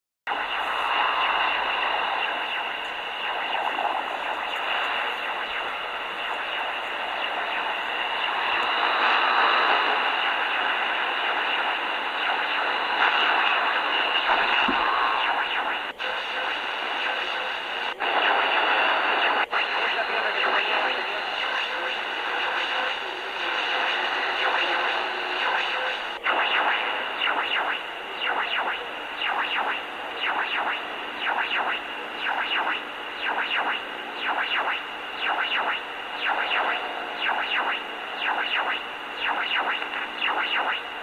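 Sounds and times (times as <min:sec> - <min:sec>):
radio static hiss: 0:00.3 - 0:41.0.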